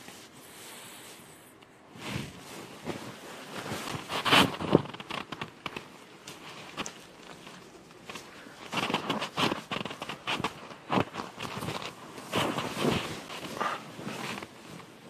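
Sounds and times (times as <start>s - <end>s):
clothing and bedding rustling: 0.0s - 15.0s.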